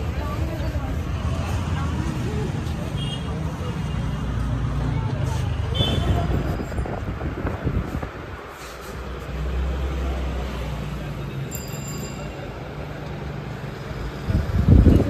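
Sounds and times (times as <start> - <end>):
faint voices: 0.0 - 15.0
low rumble of shop: 0.0 - 15.0.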